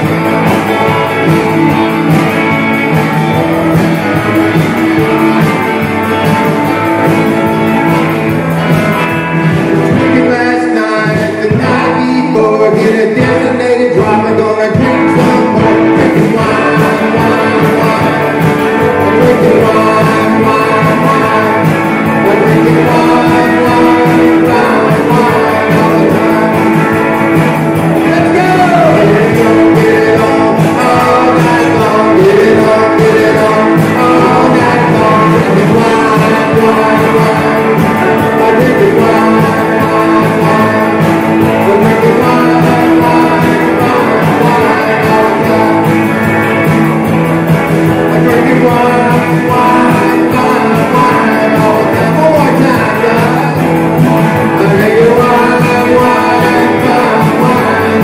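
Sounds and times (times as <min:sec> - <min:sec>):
guitar: 0:00.0 - 0:58.0
rock band playing live: 0:00.0 - 0:58.0
vocalist singing: 0:00.0 - 0:58.0.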